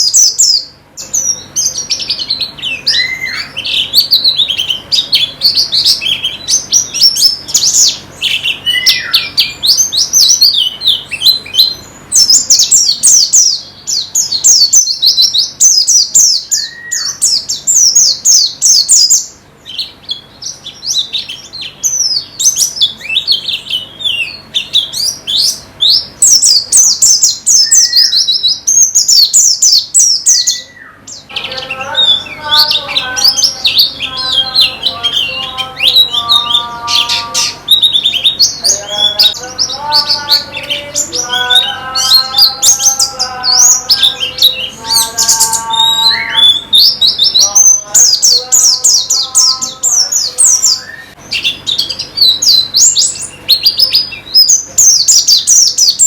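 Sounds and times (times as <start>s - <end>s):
bird chirping song: 0.0s - 56.0s
low repeated bird notes: 0.0s - 56.0s.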